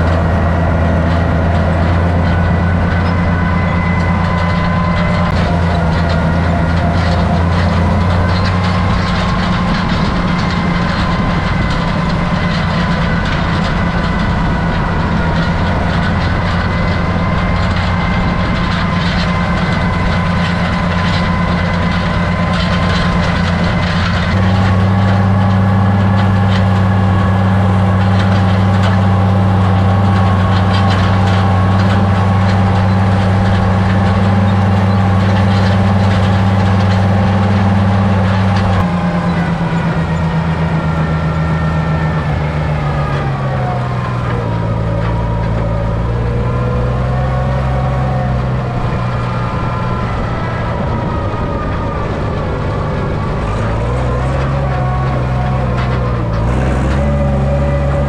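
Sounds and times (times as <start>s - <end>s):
wheel rake rattling: 0.0s - 50.5s
tractor engine under load: 0.0s - 58.0s.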